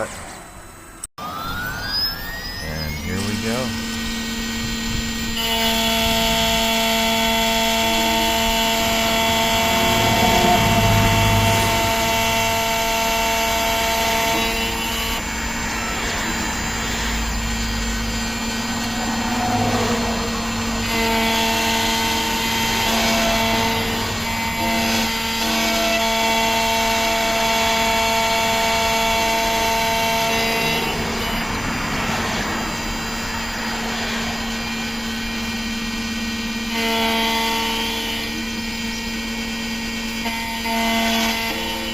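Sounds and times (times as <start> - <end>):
key cutting machine motor whine: 0.0 - 41.9
rasping metal cutting: 2.6 - 41.9.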